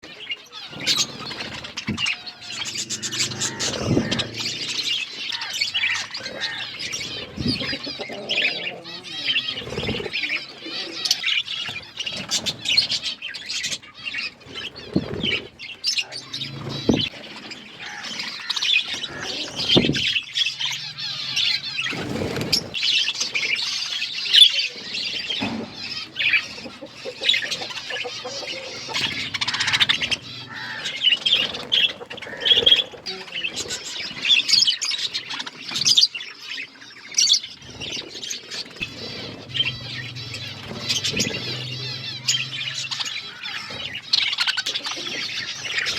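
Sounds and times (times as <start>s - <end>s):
budgerigars chirping and chattering: 0.0s - 45.9s
wing flapping: 0.6s - 23.9s, 25.0s - 34.4s, 37.6s - 45.9s.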